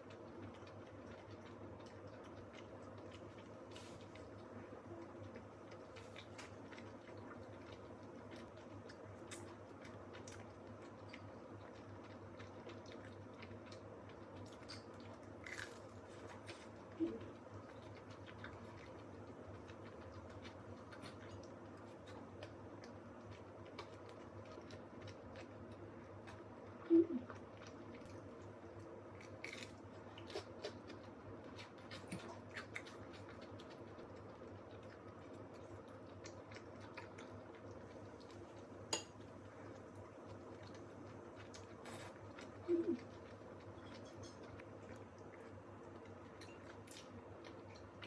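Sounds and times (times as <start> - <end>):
chewing: 0.0 - 48.0
low room hum: 0.0 - 48.0.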